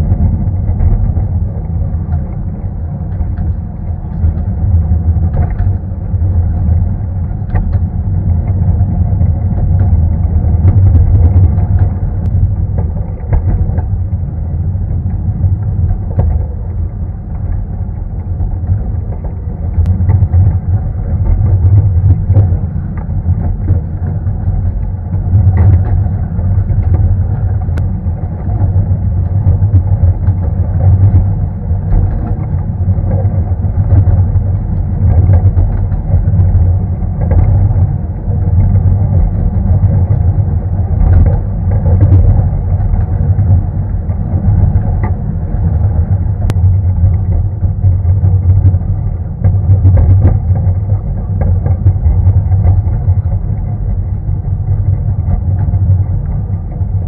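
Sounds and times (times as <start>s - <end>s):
train rumbling along track: 0.0s - 57.0s.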